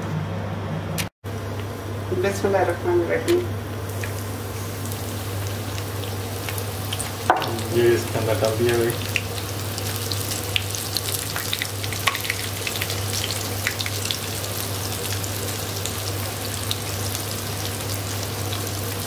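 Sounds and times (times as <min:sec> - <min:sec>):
chicken deep-frying in oil: 0:01.3 - 0:19.0.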